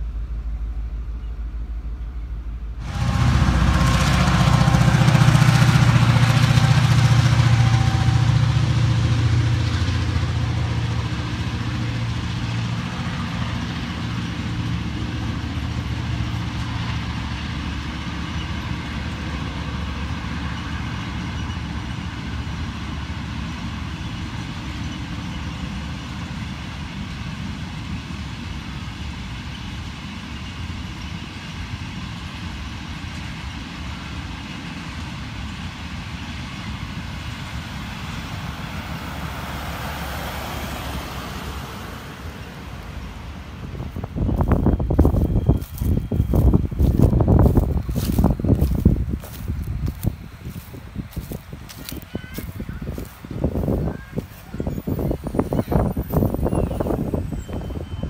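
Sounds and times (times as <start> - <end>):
diesel locomotive engine drone: 0.0 - 58.0
rumble of wagons rolling past: 0.0 - 58.0.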